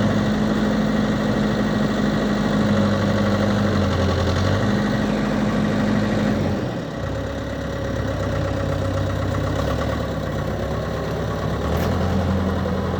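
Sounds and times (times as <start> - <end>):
backhoe loader diesel engine running: 0.0 - 12.9.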